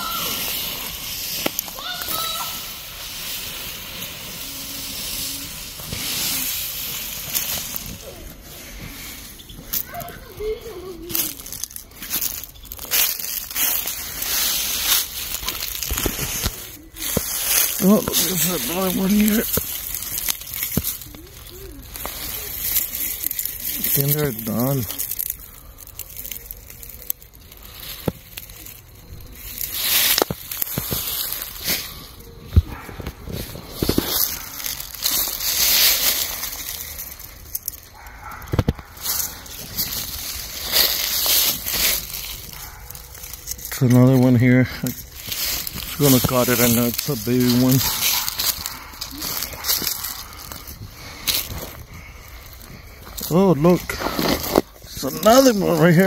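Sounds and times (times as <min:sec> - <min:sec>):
dry leaves rustling and crunching: 0:00.0 - 0:56.0.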